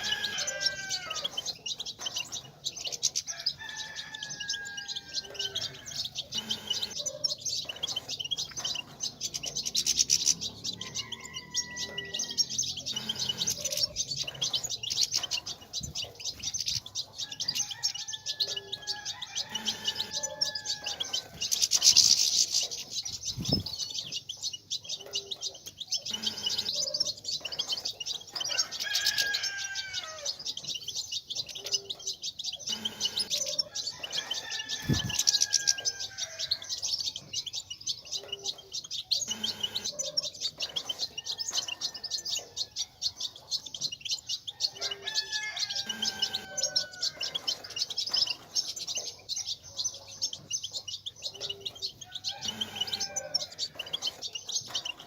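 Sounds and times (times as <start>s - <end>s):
goldfinches twittering: 0.0s - 55.0s.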